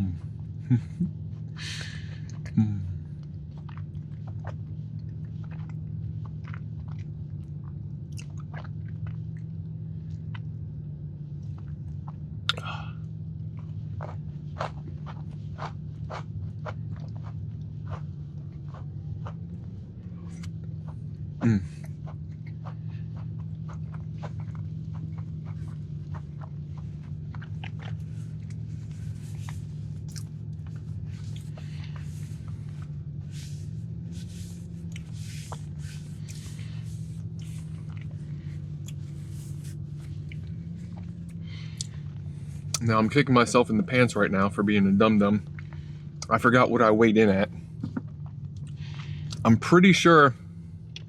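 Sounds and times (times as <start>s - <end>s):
person chewing: 0.0s - 42.9s, 47.7s - 49.4s
low hum: 0.0s - 51.0s.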